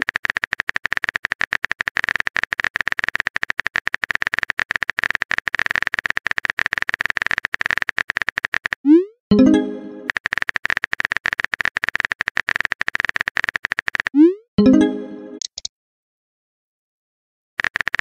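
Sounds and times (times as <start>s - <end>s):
typing sound effect clicks: 0.0s - 15.7s, 17.6s - 18.0s.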